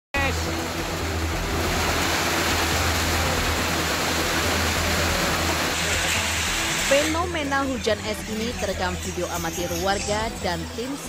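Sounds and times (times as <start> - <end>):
torrential rain on roofs: 0.2 - 11.0.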